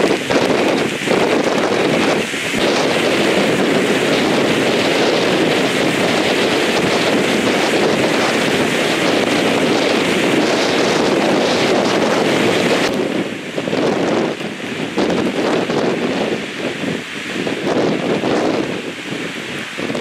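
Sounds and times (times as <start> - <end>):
waves breaking against seawall: 0.0 - 20.0
wind buffeting microphone: 0.0 - 20.0.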